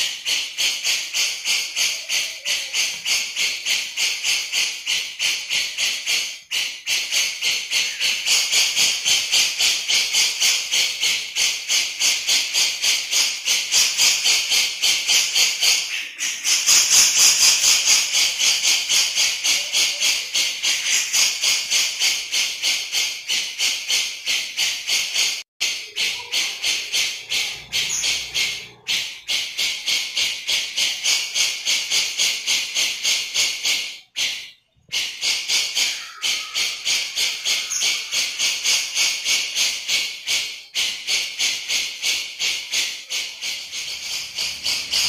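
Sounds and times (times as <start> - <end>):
bird calling rapid repeated notes: 0.0 - 45.0.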